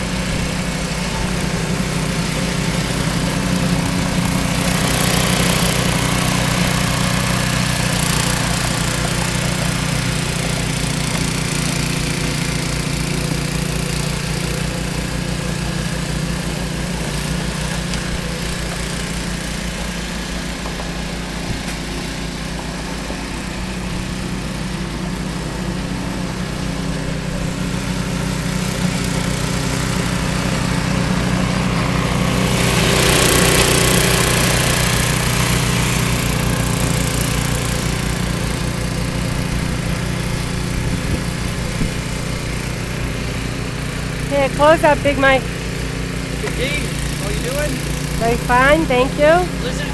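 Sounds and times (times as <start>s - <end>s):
snowblower engine running: 0.0s - 49.9s.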